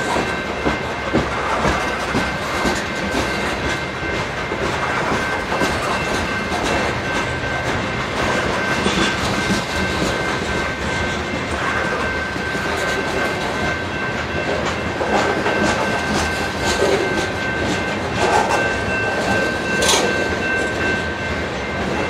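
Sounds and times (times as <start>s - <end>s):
freight train rumbling past: 0.0s - 22.0s
wheels clacking over rail joints: 0.0s - 22.0s.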